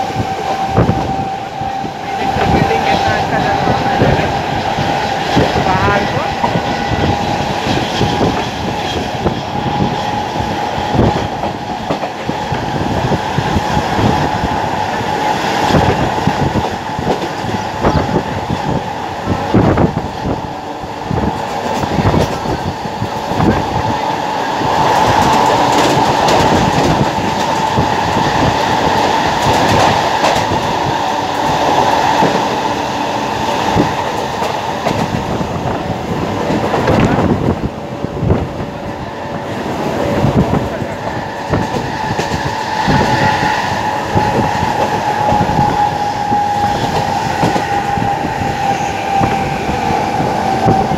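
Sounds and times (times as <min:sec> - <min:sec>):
train rumble and rush: 0:00.0 - 0:50.9.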